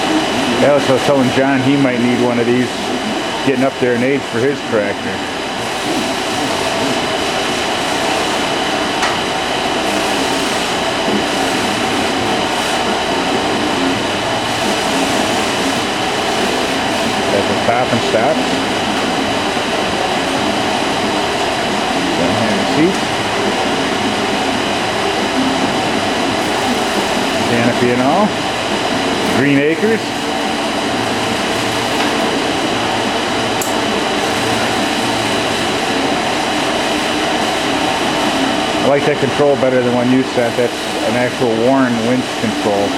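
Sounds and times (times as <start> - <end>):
electric winch motor whirring: 0.0 - 42.9.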